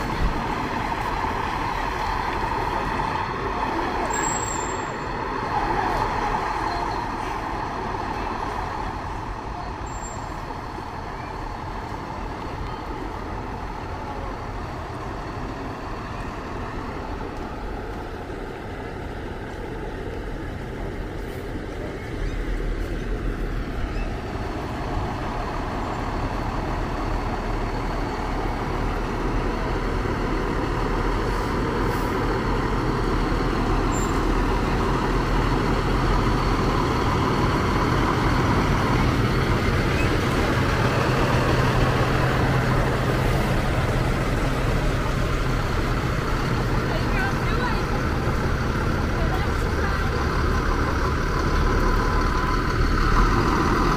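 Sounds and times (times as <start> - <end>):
fire truck engines rumbling: 0.0 - 53.9.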